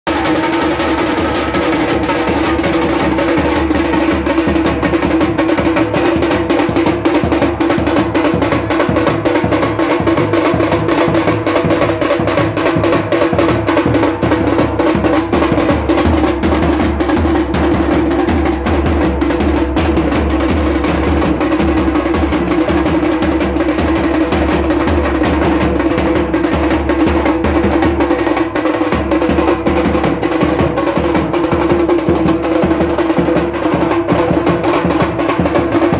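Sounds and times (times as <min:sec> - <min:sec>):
fast high kettle drum beat: 0:00.1 - 0:35.9.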